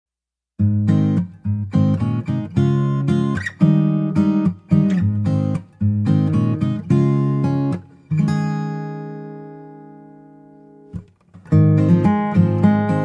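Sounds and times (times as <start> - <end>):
acoustic guitar strumming chords: 0.6 - 13.0.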